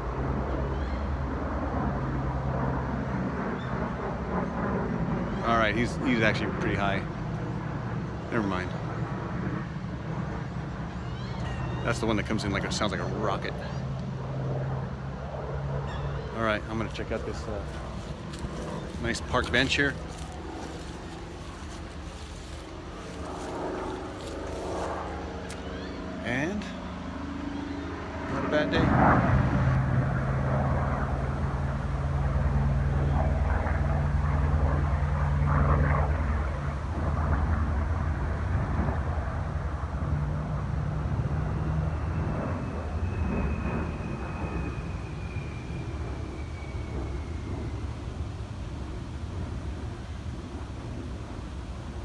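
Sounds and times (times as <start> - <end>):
steady low rumble: 0.0 - 10.9, 12.1 - 52.0
distant jet aircraft roar: 0.0 - 52.0
faint high whine: 5.1 - 52.0.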